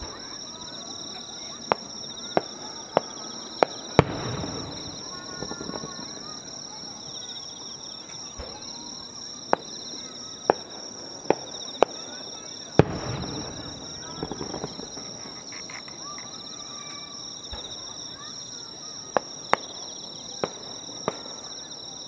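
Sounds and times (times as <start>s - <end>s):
fireworks bangs: 0.0s - 22.0s
insects chirring: 0.0s - 22.0s.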